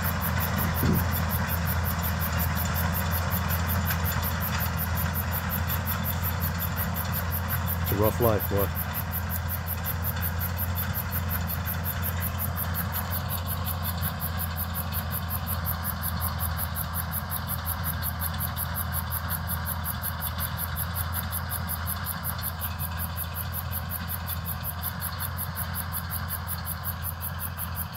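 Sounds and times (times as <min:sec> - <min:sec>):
tractor engine running: 0:00.0 - 0:27.9.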